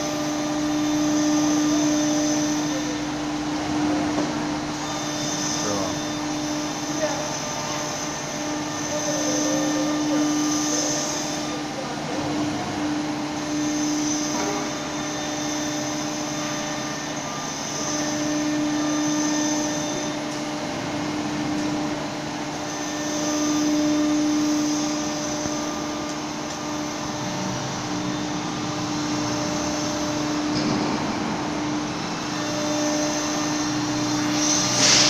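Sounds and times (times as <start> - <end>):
high machine whine: 0.0 - 35.0
router machine whirring: 0.0 - 35.0.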